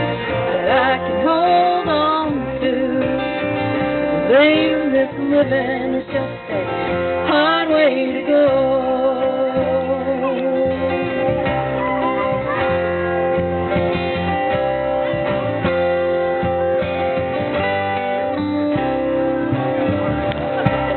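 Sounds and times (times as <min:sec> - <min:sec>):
acoustic guitar: 0:00.0 - 0:20.9
bass guitar: 0:00.0 - 0:20.9.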